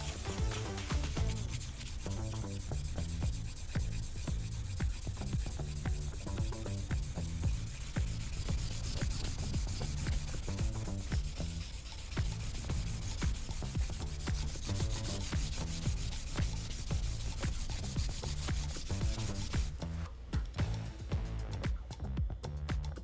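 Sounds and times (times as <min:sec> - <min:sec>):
eraser scrubbing a steel blade: 0:00.0 - 0:20.0.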